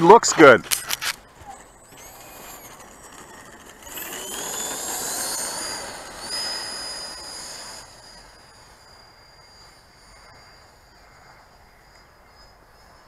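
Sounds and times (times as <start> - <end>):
model jet high whine: 0.0 - 13.0.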